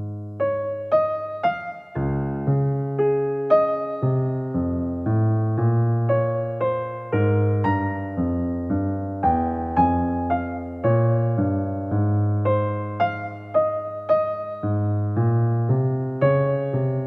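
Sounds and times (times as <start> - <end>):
slow piano tune: 0.0 - 17.0.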